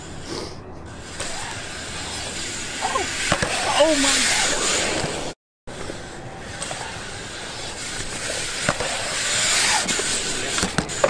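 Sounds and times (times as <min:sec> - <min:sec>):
bike tyres rolling on concrete: 0:00.9 - 0:11.0.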